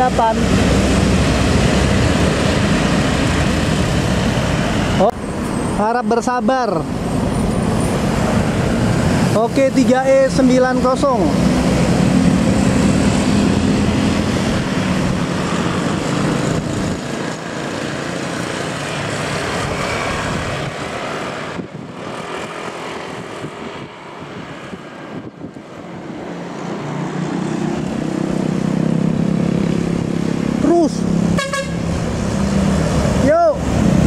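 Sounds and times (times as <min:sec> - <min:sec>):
bus engine: 0:00.0 - 0:34.0
car passing: 0:00.0 - 0:34.0
motorcycles passing: 0:00.0 - 0:34.0
road noise: 0:00.0 - 0:34.0.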